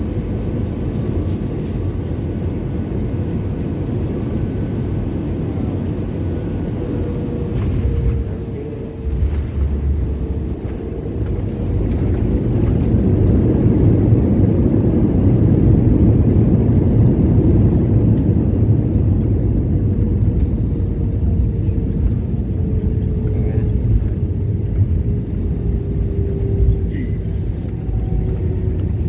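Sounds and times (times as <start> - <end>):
jet cabin rumbling roar: 0.0 - 29.0.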